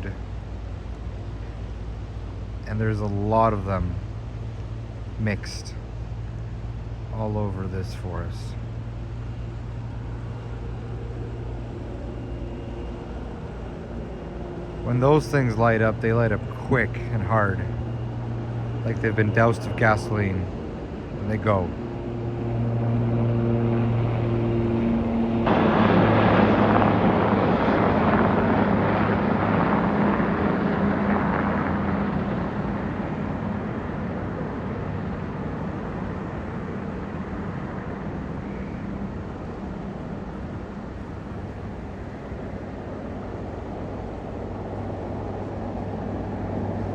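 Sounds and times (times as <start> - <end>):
aircraft engine droning: 0.0 - 46.9.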